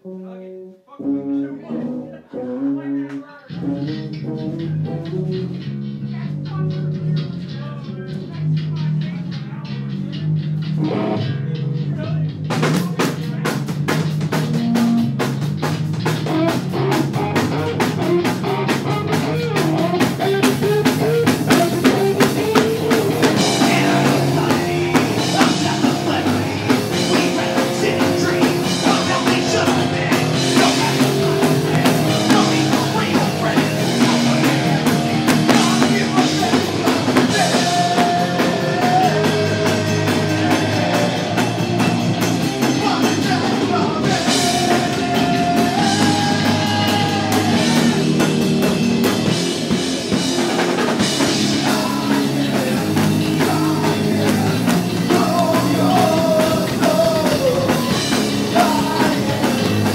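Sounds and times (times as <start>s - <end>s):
electric guitar: 0.0s - 11.9s, 12.5s - 59.9s
electric bass: 1.2s - 59.9s
drum kit: 3.1s - 59.9s.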